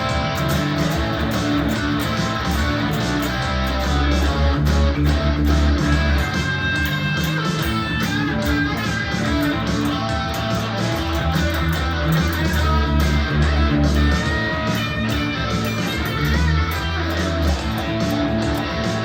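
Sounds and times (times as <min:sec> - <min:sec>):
guitar notes: 0:00.0 - 0:19.0
low bass notes: 0:00.0 - 0:19.0.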